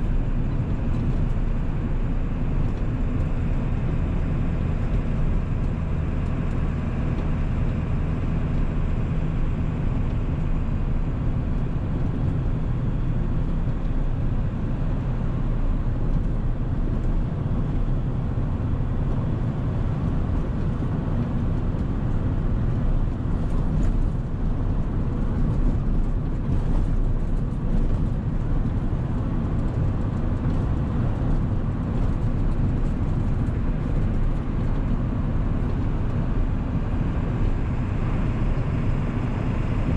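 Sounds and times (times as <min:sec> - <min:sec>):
diesel engine running: 0:00.0 - 0:39.9
road noise: 0:00.0 - 0:39.9.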